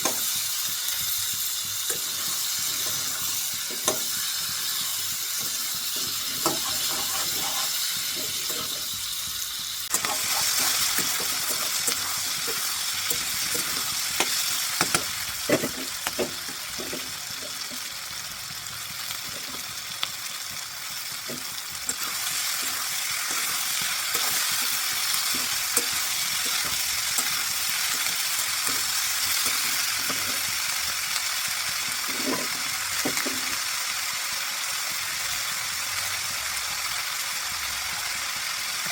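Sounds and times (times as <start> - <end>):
cabbage sizzling in a pan: 0.0 - 38.9.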